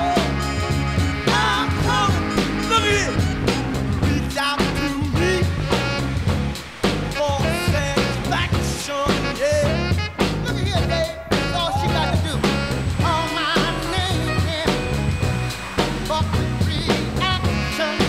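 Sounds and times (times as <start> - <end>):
rock song with singing: 0.0 - 18.0.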